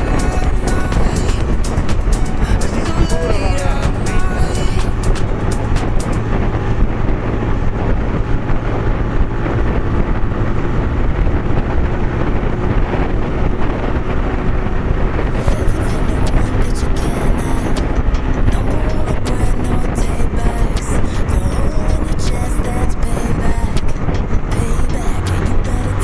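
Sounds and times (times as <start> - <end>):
motorcycle engine cruising: 0.0 - 26.0
wind rushing over microphone: 0.0 - 26.0.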